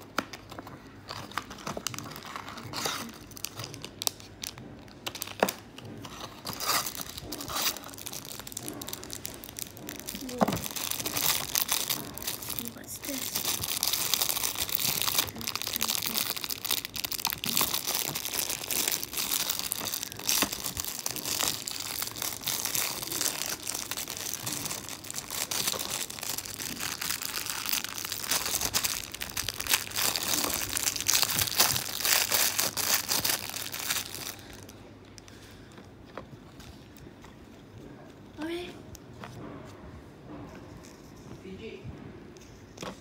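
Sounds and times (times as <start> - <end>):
plastic wrapper crinkling: 0.0 - 37.6.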